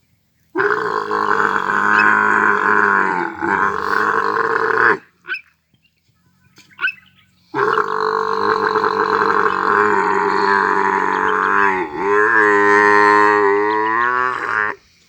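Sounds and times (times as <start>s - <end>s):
large animal growling call: 0.6s - 5.1s, 6.8s - 14.8s.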